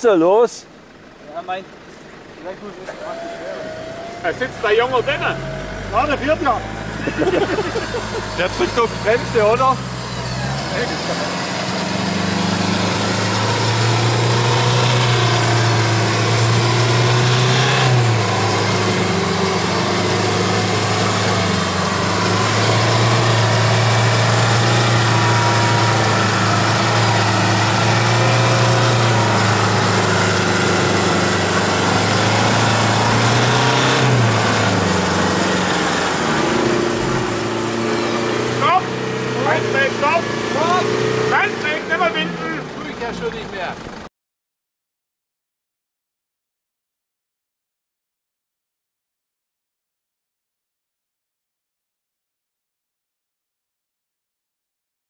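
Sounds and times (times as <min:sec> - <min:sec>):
engine running under load: 0:00.0 - 0:44.1.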